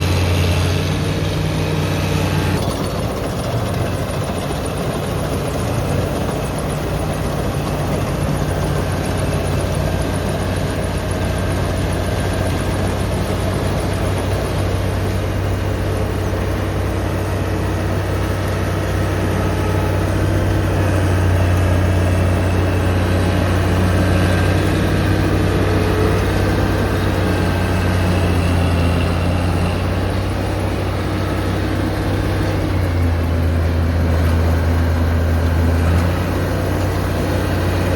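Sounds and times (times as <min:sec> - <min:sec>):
farm machine engine humming: 0:00.0 - 0:37.9.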